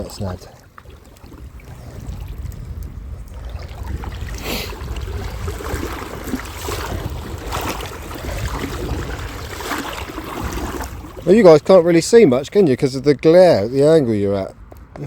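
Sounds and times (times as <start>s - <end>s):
water sloshing around wading legs: 0.0s - 12.4s
wind rumble on microphone: 0.0s - 15.0s.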